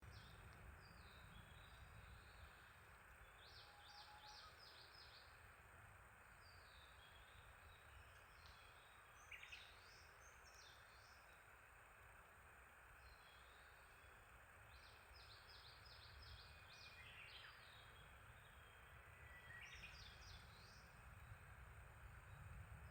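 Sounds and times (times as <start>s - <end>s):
songbirds singing: 0.0s - 22.9s
steady hiss: 0.1s - 22.9s.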